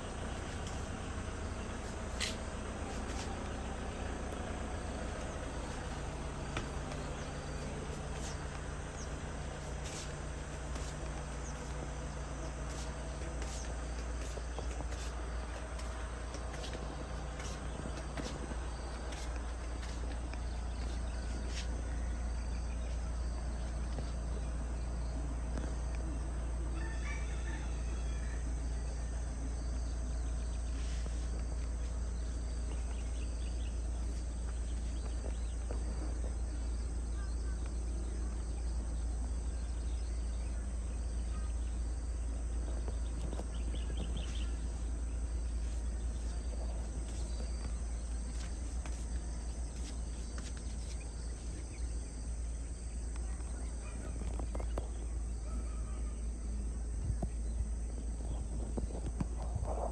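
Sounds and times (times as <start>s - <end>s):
steady low rumble: 0.0s - 26.8s, 28.5s - 59.9s.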